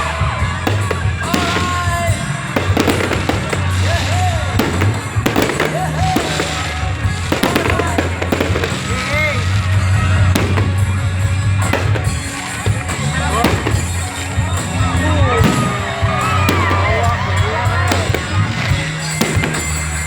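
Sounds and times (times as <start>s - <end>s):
fireworks bangs and crackles: 0.0s - 20.0s
music with bass line: 0.0s - 20.0s.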